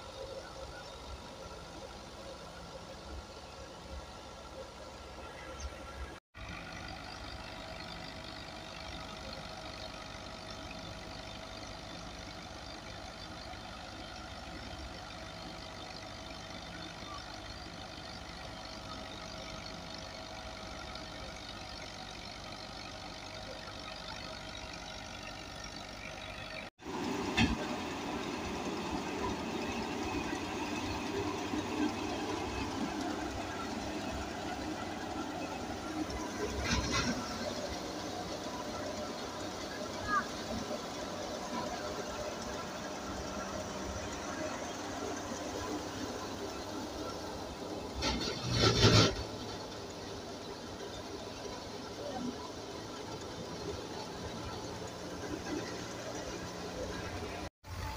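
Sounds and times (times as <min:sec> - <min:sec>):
diesel tractor engine running: 0:00.0 - 0:57.9
grain thresher running: 0:06.4 - 0:57.9.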